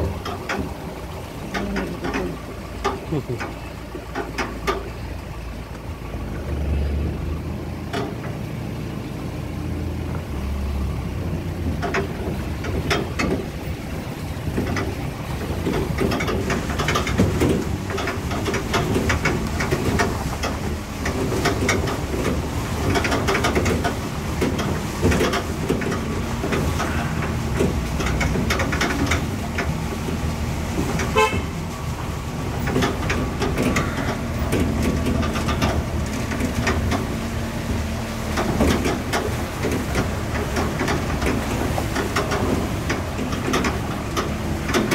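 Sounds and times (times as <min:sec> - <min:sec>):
vehicle engine running: 0:00.0 - 0:44.9
vehicle knocks and rattles: 0:00.0 - 0:44.9.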